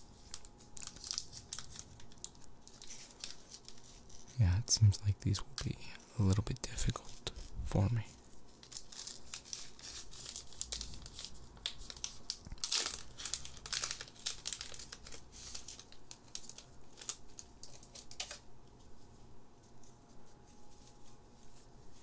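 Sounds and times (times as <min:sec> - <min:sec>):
foil wrapper crinkling: 0:00.0 - 0:04.4, 0:08.2 - 0:22.0.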